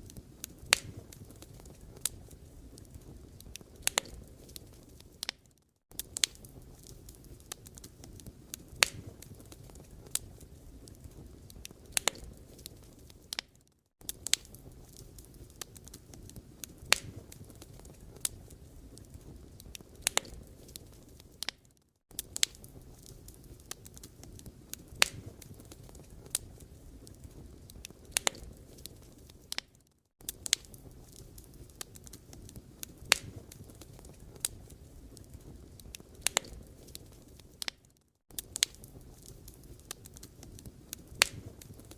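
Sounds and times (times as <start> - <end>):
low rumble of flames: 0.0 - 41.9
wood crackling and popping: 0.0 - 41.9.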